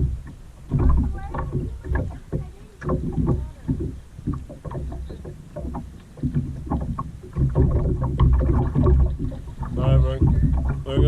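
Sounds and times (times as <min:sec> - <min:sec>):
low rumble on microphone: 0:00.0 - 0:11.0
paddle splashing in water: 0:00.0 - 0:11.0
water sloshing: 0:00.0 - 0:11.0.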